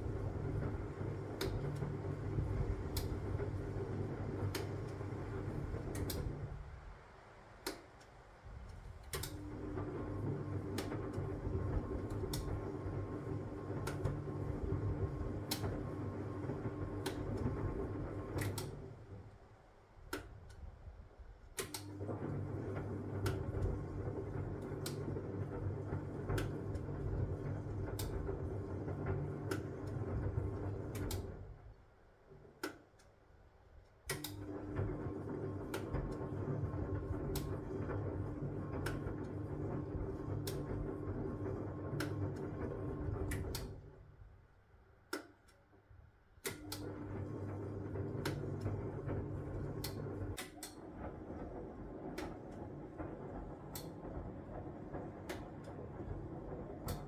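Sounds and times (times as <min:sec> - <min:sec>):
washing machine motor hum: 0:00.0 - 0:32.8, 0:33.4 - 0:45.3, 0:46.4 - 0:57.0.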